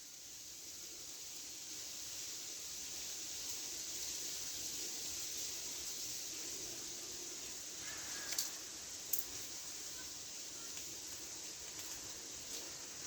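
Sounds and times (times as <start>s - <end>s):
urban background hiss: 0.0s - 13.0s.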